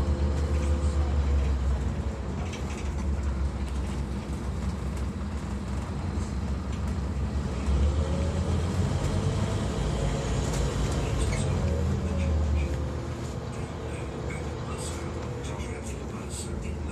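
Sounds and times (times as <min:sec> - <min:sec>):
bus engine droning: 0:00.0 - 0:16.9.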